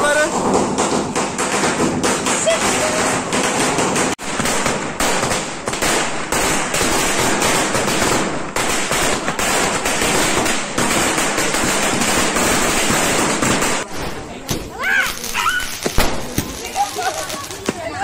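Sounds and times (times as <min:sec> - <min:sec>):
firecrackers bursting: 0:00.0 - 0:18.0.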